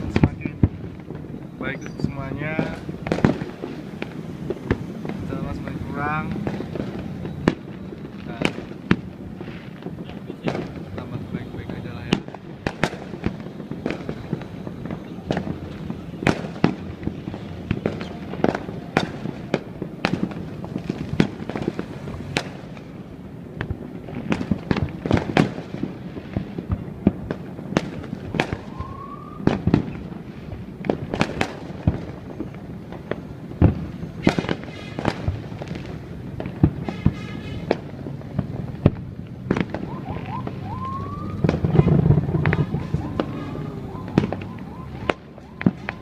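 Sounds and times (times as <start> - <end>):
fireworks bangs and pops: 0.0 - 46.0
low rumble and crackle: 0.0 - 46.0.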